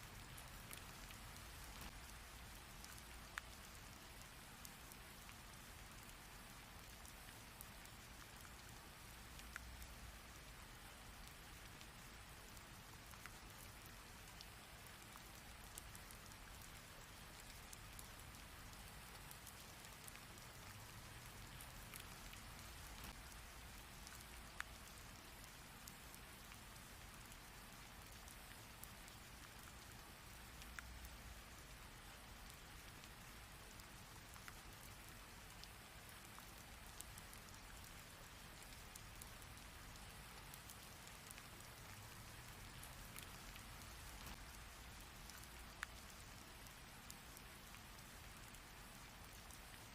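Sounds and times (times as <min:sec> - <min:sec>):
rain falling: 0:00.0 - 0:49.9
raindrops ticking: 0:00.0 - 0:49.9.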